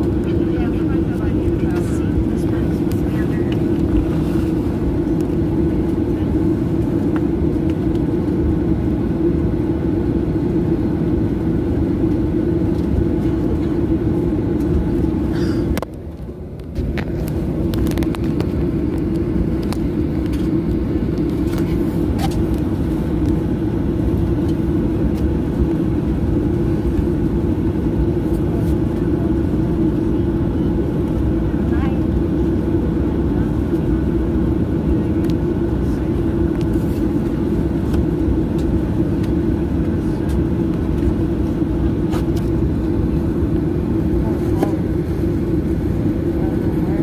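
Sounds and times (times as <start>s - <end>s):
jet engine hum in cabin: 0.0s - 47.0s.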